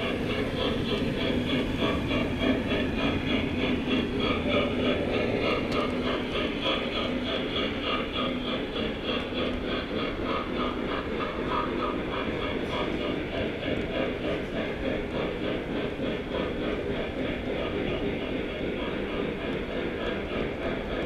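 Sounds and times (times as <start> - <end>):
low running hum: 0.0 - 21.0
model train clicking on track: 0.0 - 21.0.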